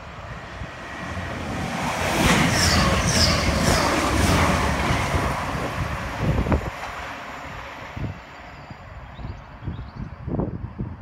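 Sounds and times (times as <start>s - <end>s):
train wheels rushing on rails: 0.0s - 9.1s.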